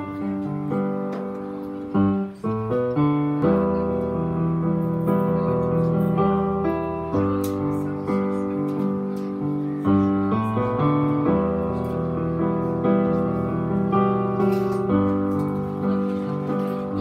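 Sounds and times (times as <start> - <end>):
piano chords on keyboard: 0.0 - 17.0.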